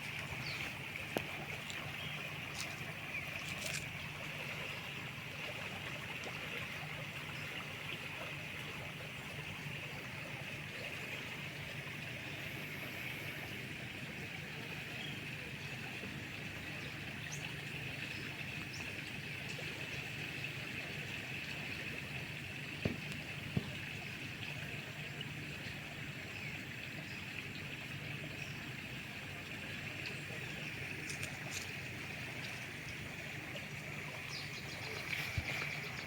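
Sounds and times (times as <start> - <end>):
river rumble and hiss: 0.0 - 27.2, 27.9 - 36.0.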